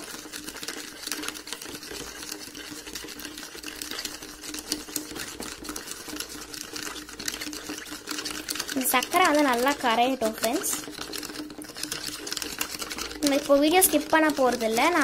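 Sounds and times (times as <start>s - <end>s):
spoon scraping plastic bowl: 0.0s - 15.0s.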